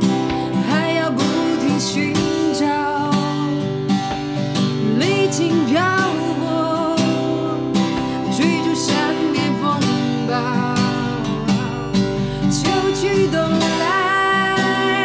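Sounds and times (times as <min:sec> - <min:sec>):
woman singing with vibrato: 0:00.0 - 0:03.8, 0:04.7 - 0:15.0
strummed acoustic guitar: 0:00.0 - 0:15.0.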